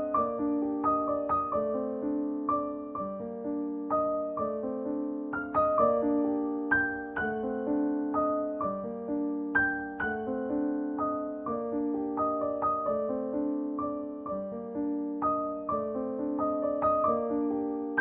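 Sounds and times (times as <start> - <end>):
soft piano piece: 0.0 - 18.0.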